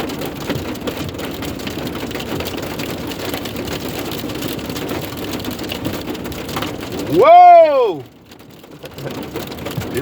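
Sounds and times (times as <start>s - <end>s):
hailstones ticking: 0.0s - 10.0s.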